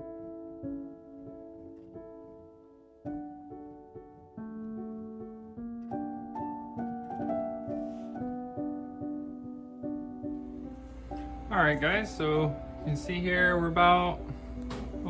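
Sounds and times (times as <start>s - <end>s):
instrumental background music: 0.1s - 15.0s.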